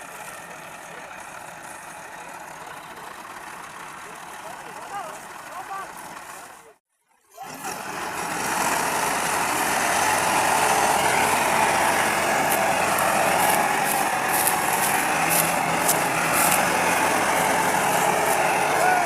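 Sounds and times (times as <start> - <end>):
tractor engine running: 0.0 - 6.8, 7.4 - 19.0.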